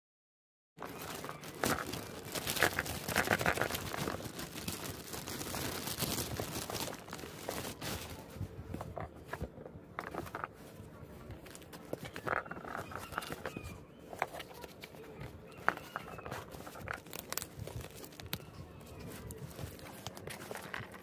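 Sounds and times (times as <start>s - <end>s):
cardboard parcel handled: 0.8s - 21.0s
plastic bag crinkling: 0.8s - 21.0s.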